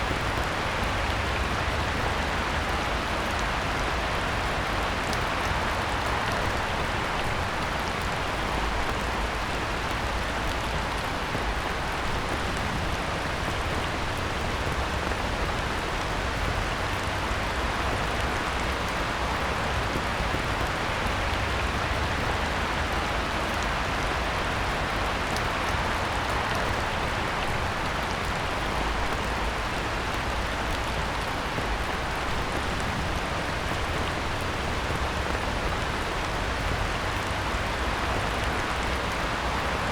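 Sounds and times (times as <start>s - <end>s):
heavy rain on pond: 0.0s - 39.9s.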